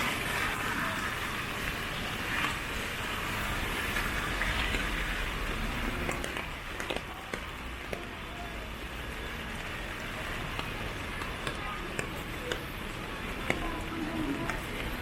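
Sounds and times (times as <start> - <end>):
rain hissing: 0.0 - 15.0
traffic on wet street: 0.0 - 15.0.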